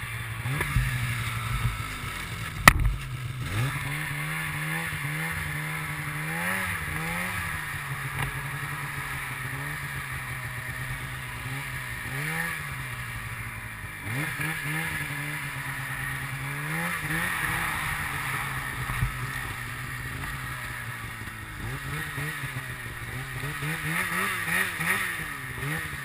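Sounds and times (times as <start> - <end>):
snowmobile engine running: 0.0 - 26.0
wind and track hiss: 0.0 - 26.0.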